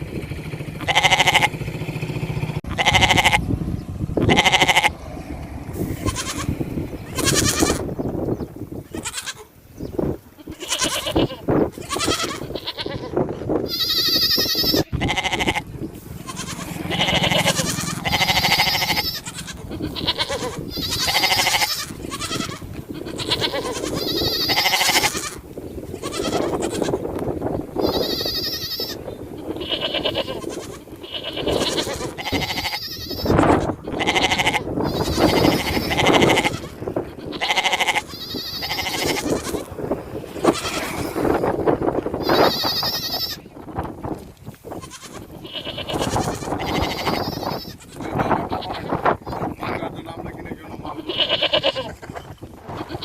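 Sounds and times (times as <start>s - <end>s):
sheep bleating: 0.8s - 1.6s, 2.7s - 3.4s, 4.2s - 5.0s, 5.8s - 7.9s, 8.9s - 9.5s, 10.4s - 27.1s, 27.7s - 41.4s, 42.2s - 43.5s, 44.7s - 49.6s, 50.8s - 52.1s, 52.7s - 53.0s.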